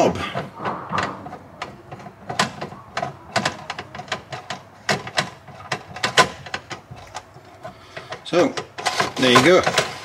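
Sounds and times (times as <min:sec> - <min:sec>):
plastic clicks and knocks: 0:00.1 - 0:10.0.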